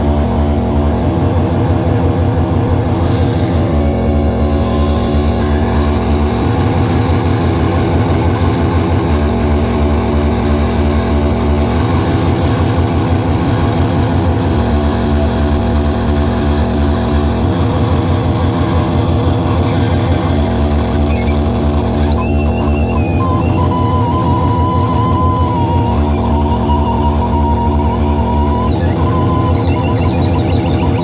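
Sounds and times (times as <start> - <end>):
loud electronic noise: 0.0 - 31.0
low rumbling drone: 0.0 - 31.0.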